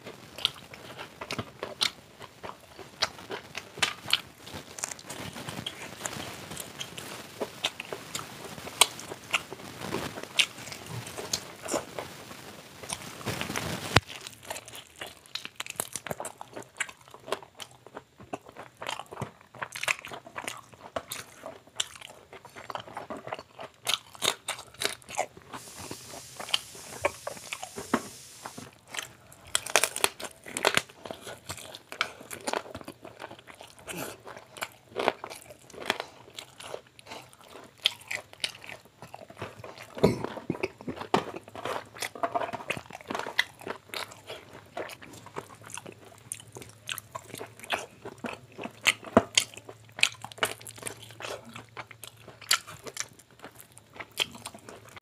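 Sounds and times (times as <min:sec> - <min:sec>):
crunching of fried crust: 0:00.0 - 0:55.0
person chewing fried chicken: 0:00.0 - 0:55.0.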